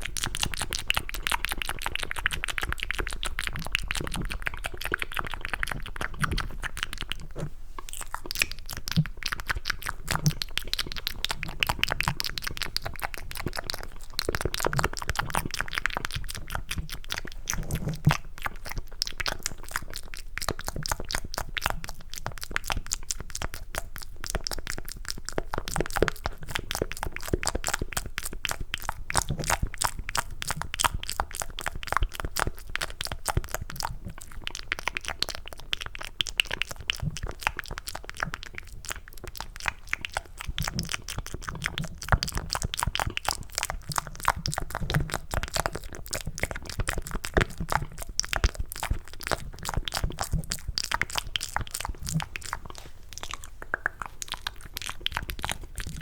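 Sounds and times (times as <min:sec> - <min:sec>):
wet mouth clicks and crackles: 0:00.0 - 0:56.0.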